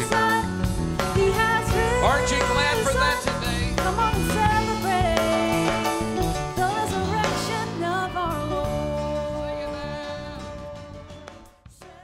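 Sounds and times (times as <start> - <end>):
band with bass and drums: 0.0 - 12.0.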